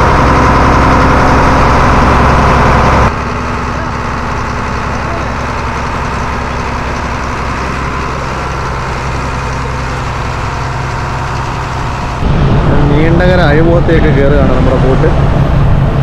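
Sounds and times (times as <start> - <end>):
boat diesel engine humming: 0.0 - 16.0.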